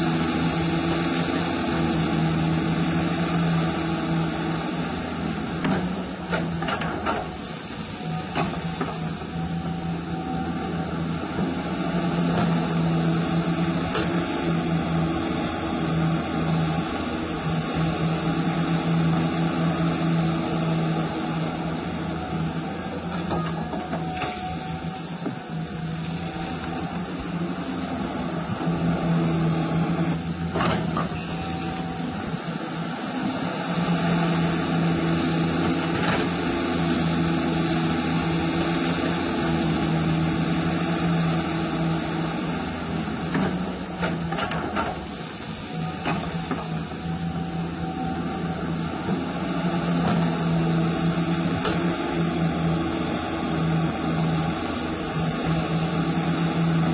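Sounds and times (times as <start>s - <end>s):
hydraulic pump hum: 0.0s - 56.9s.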